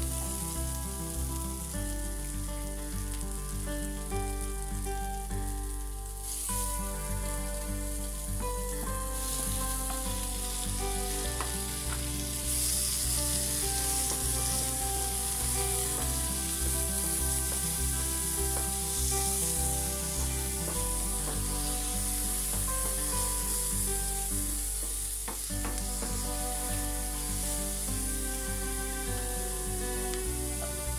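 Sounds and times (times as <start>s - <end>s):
background music with bass: 0.0s - 30.9s
food sizzling in a wok: 0.0s - 30.9s.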